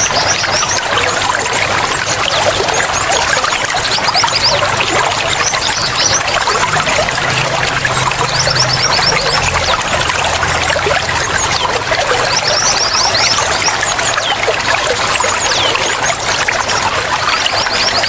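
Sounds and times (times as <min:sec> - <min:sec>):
water flowing and trickling: 0:00.0 - 0:18.0.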